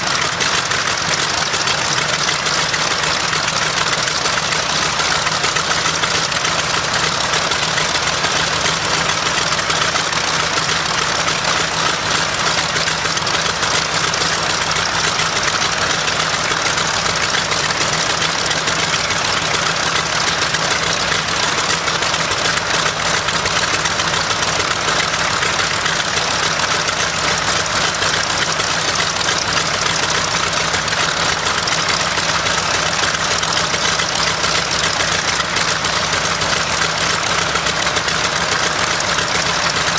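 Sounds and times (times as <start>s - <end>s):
aircraft radial engine running: 0.0s - 39.9s.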